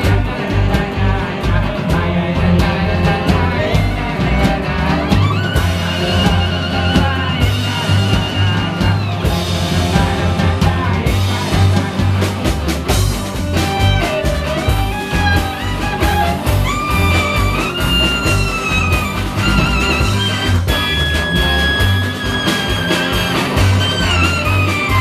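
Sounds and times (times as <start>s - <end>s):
double bass: 0.0s - 25.0s
drums keeping a beat: 0.0s - 25.0s
sliding melody line: 0.0s - 25.0s.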